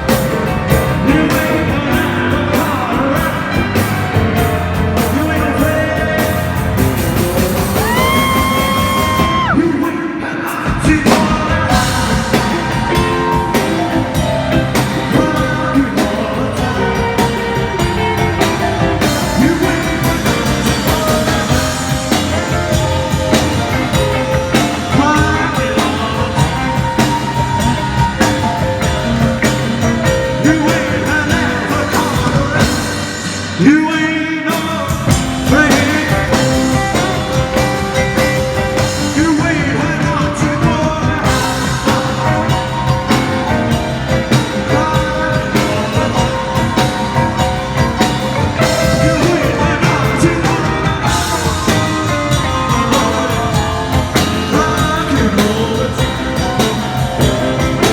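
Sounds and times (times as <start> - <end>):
drums: 0.0 - 57.9
rock band playing: 0.0 - 57.9
electric guitar: 10.7 - 57.9.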